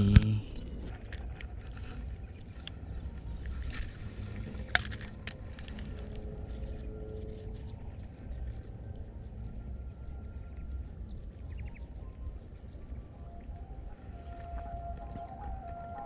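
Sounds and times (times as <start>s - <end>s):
low rumble: 0.0s - 13.2s
insects droning: 0.0s - 16.0s.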